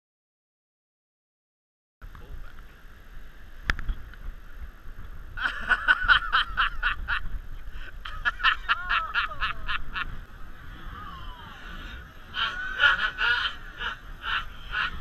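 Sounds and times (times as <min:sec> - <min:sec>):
wind rumble on microphone: 0:02.0 - 0:15.0.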